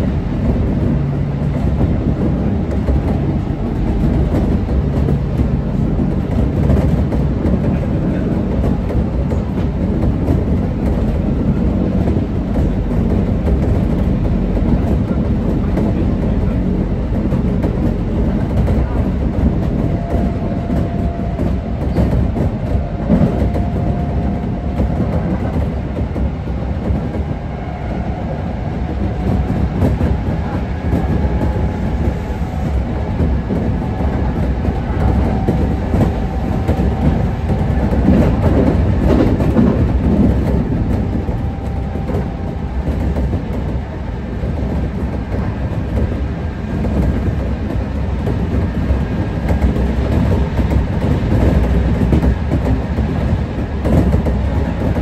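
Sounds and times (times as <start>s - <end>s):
faint train whine: 0.0s - 55.0s
train wheels rolling on rail: 0.0s - 55.0s.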